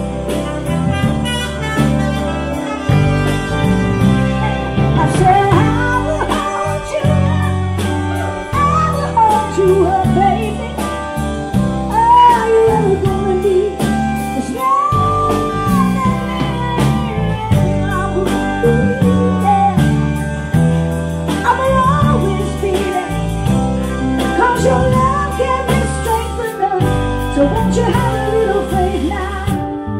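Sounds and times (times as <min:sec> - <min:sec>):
drums: 0:00.0 - 0:29.9
electric bass: 0:00.0 - 0:29.9
electric guitar: 0:00.0 - 0:29.9
keyboard: 0:00.0 - 0:29.9
female lead vocal: 0:04.5 - 0:20.3, 0:21.3 - 0:29.9.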